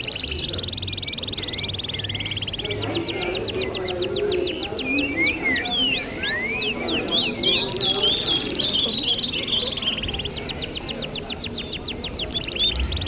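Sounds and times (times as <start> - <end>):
buzzy bird trill: 0.0 - 13.0
murmur of people talking: 0.0 - 13.0
wild birds calling: 0.0 - 13.0.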